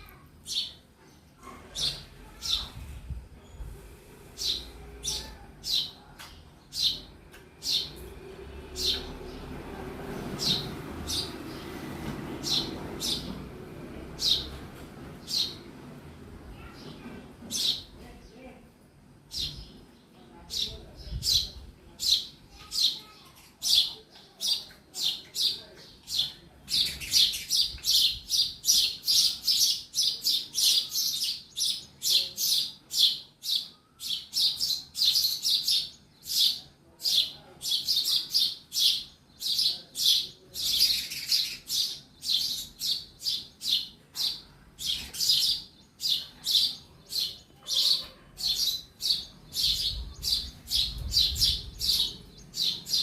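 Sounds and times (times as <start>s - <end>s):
sparrow chirping: 0.0s - 15.7s, 17.5s - 18.5s, 19.3s - 53.0s.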